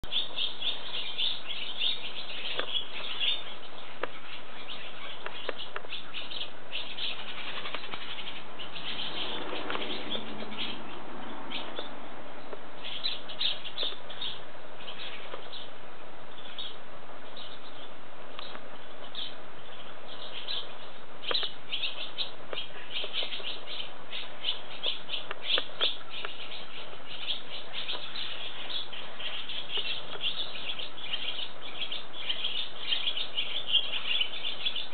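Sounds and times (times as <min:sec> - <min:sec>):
swallows twittering: 0:00.0 - 0:34.9.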